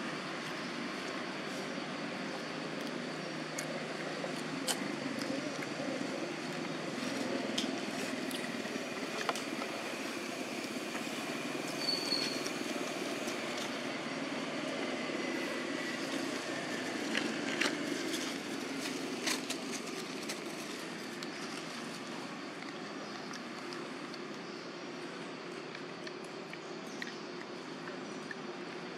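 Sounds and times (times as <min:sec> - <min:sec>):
rustling dry leaves: 0:00.0 - 0:24.1
motorbike engines humming: 0:00.0 - 0:24.2.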